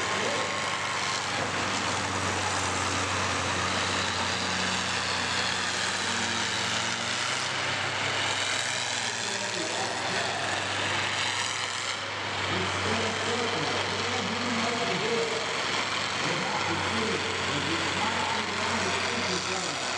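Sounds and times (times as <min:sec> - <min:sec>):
combine harvester engines droning: 0:00.0 - 0:19.9.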